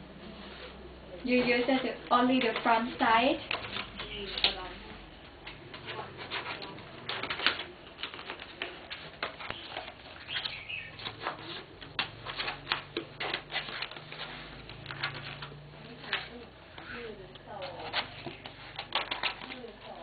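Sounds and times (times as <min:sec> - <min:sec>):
light clicks and rustles: 0:00.6 - 0:20.0.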